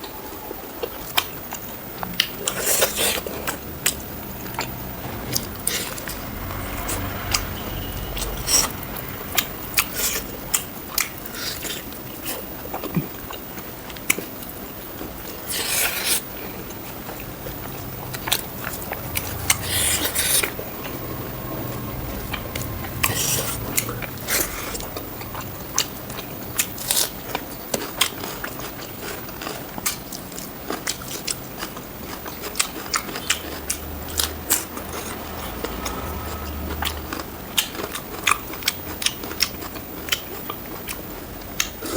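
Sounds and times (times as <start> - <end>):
chewing with wet mouth clicks: 0.0 - 41.9.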